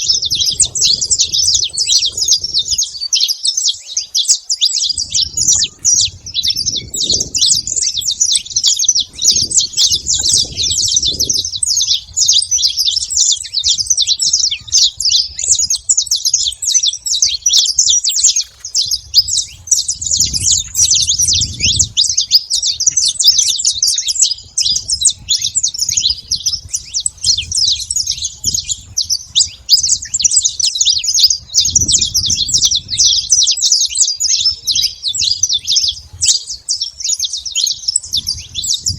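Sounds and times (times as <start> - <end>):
finch chirping: 0.0 - 38.9.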